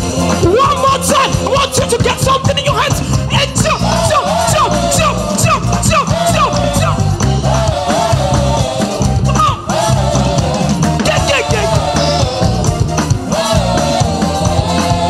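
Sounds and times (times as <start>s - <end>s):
lead vocalist singing: 0.0s - 15.0s
praise band music with steady beat: 0.0s - 15.0s.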